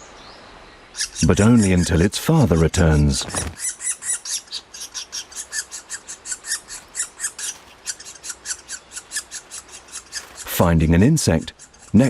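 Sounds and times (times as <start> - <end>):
woodpecker chicks begging calls: 0.9 - 12.0.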